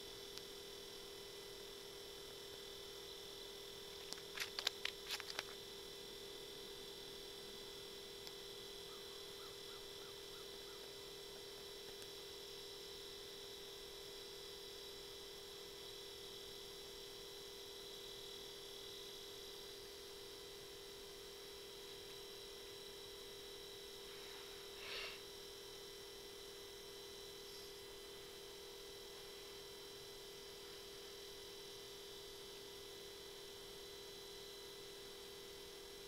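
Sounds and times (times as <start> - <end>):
faint electronic whine: 0.0 - 36.0.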